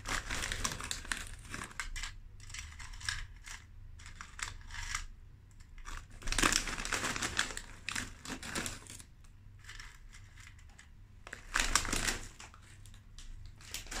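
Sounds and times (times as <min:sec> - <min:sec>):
plastic snack bag crinkling: 0:00.0 - 0:05.1, 0:05.8 - 0:14.0.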